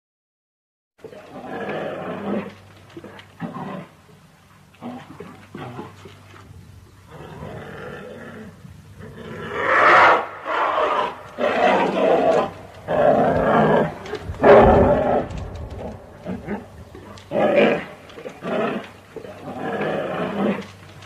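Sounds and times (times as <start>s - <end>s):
bear growling and roaring: 1.1s - 4.0s, 4.8s - 6.2s, 7.0s - 21.0s.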